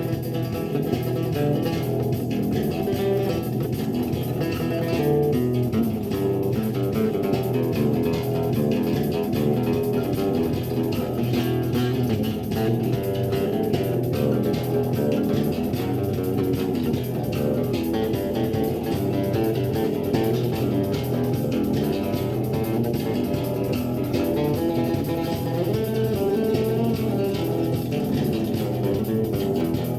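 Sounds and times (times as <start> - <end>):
electric bass guitar plucked notes: 0.0 - 29.9.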